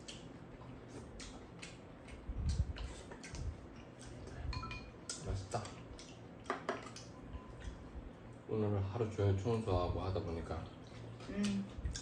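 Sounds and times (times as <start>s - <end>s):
soft chewing: 0.0s - 8.5s, 10.6s - 12.0s.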